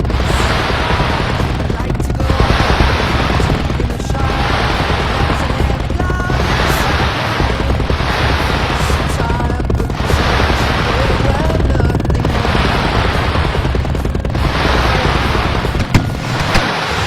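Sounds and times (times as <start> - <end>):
music: 0.0 - 16.7
fireworks crackling bangs: 0.0 - 17.0.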